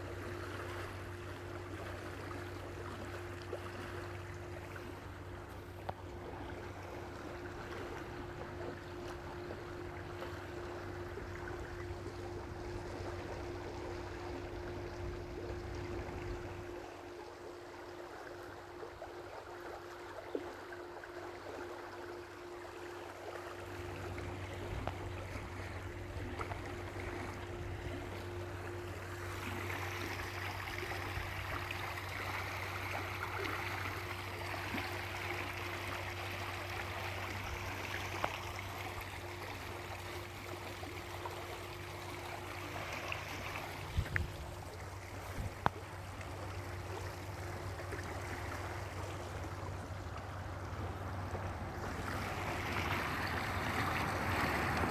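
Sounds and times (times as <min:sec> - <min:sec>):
stream water running: 0:00.0 - 0:54.9.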